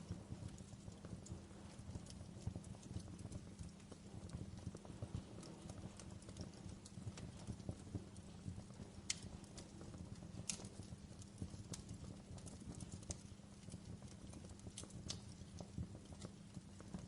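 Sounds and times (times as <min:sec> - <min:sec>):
campfire crackling: 0:00.0 - 0:17.0
campfire pops and snaps: 0:00.0 - 0:17.0
low rumble of fire: 0:00.0 - 0:17.0.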